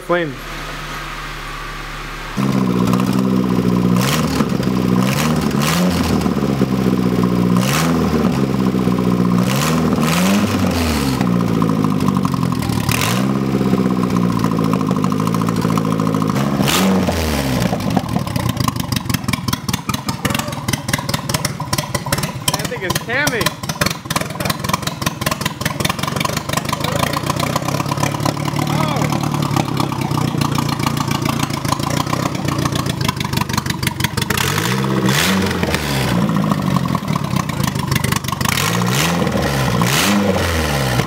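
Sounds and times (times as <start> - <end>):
car engine starting and revving: 0.0 - 41.0
rough engine idle: 0.0 - 41.0
sharp exhaust cracks: 0.0 - 41.0.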